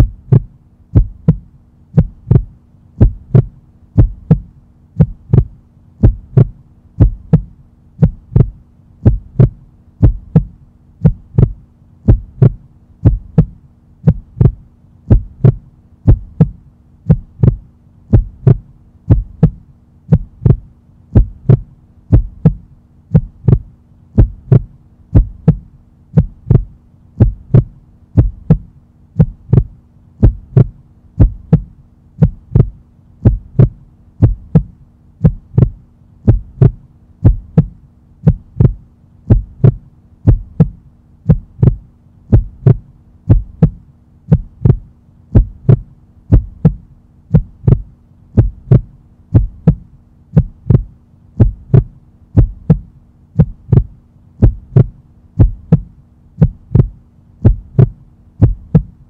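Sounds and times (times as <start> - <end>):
heartbeat-like double thump: 0.0 - 59.0
low steady hum: 0.0 - 59.0.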